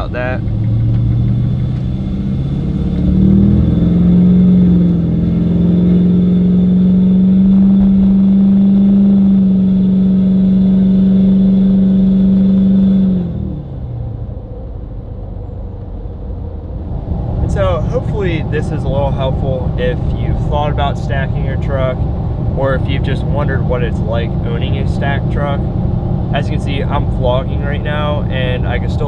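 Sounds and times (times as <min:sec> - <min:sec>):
diesel engine pulling hard: 0:00.0 - 0:29.0.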